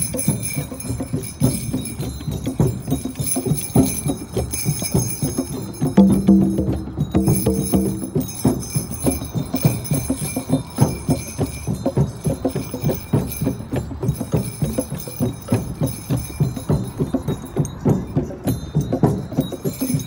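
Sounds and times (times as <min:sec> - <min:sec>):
hand drums beating: 0:00.0 - 0:20.0
jingling bell percussion: 0:00.0 - 0:20.0.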